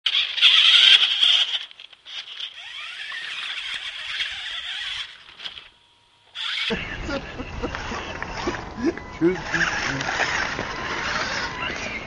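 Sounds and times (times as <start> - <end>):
electric motor whine: 0.1 - 12.0.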